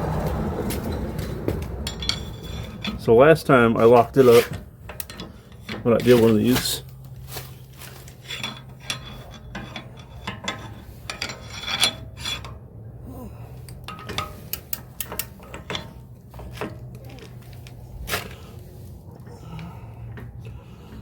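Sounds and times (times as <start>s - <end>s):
steady low hum: 0.0s - 21.0s
metal tools clinking and scraping: 0.8s - 21.0s.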